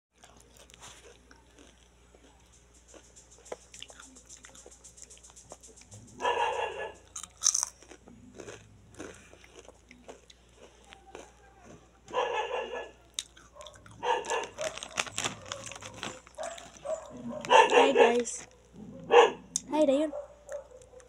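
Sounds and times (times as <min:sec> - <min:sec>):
child chewing crunchy snack: 0:00.1 - 0:11.9, 0:13.0 - 0:18.8, 0:20.3 - 0:21.0.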